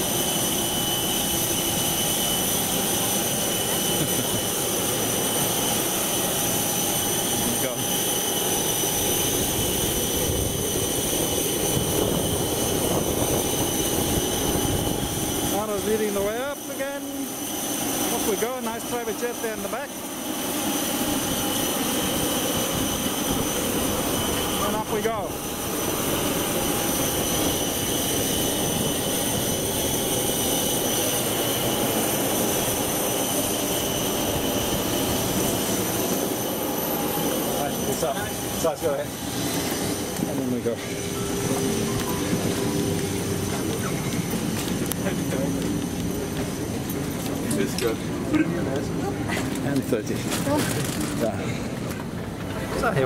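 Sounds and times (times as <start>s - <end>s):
jet turbine whine: 0.0s - 53.0s.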